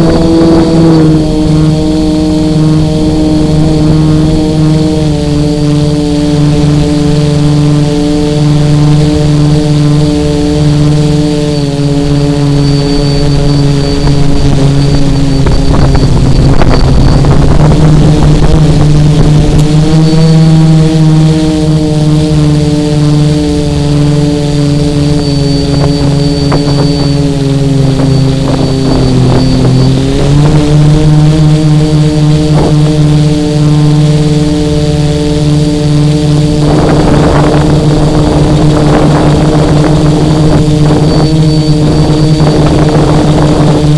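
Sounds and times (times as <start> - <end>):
drone motors and propellers: 0.0 - 43.9
wind buffeting: 0.0 - 43.9.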